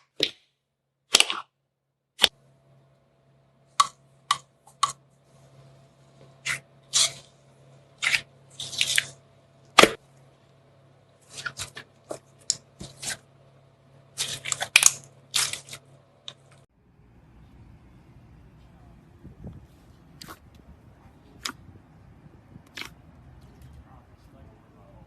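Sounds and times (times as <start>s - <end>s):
faint steady hum: 2.2s - 25.0s.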